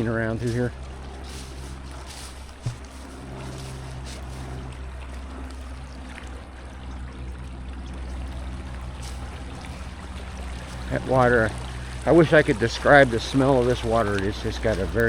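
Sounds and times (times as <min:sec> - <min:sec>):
river water flowing: 0:00.0 - 0:15.0
steady low hum: 0:00.0 - 0:15.0.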